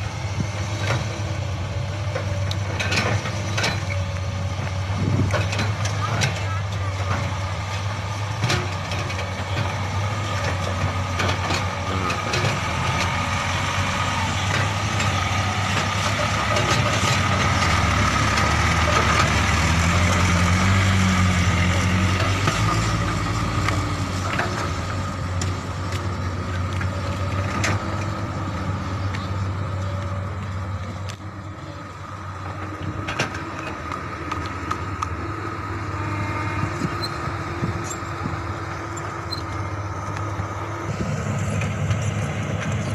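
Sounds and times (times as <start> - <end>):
dump truck driving over dirt: 0.0 - 42.9.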